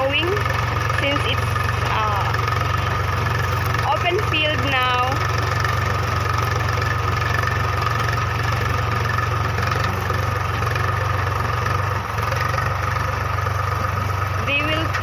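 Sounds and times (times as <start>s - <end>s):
steady engine whine: 0.0s - 15.0s
tractor engine running: 0.0s - 15.0s.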